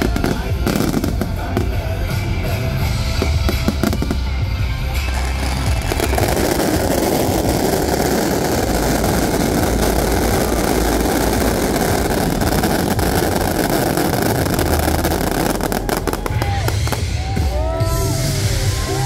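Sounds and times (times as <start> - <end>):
fountain fireworks hissing: 0.0 - 19.0.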